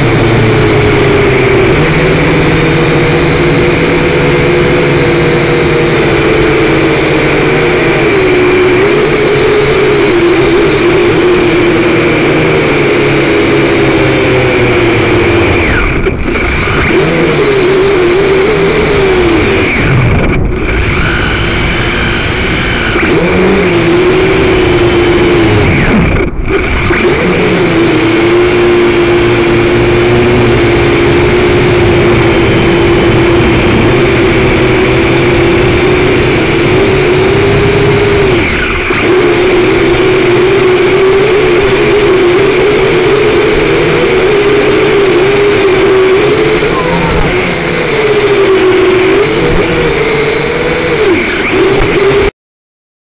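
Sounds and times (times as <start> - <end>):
drone propellers whining: 0.0 - 52.3.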